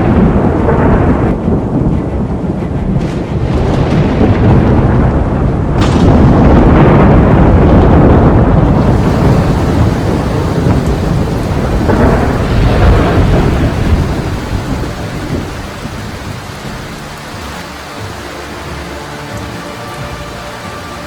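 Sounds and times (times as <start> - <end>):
steady rain hiss: 0.0 - 21.0
thunder rumbling: 0.0 - 21.0.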